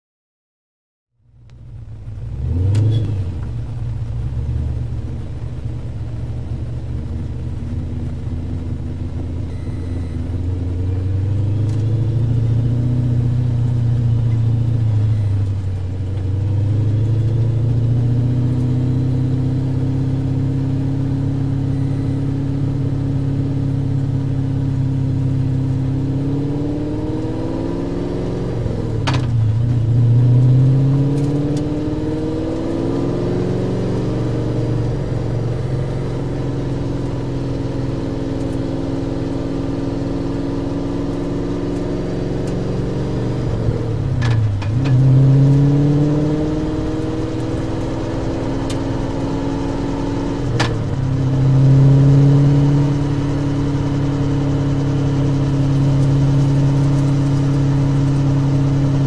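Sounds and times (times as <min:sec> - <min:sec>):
car engine revving: 0:01.2 - 0:59.0.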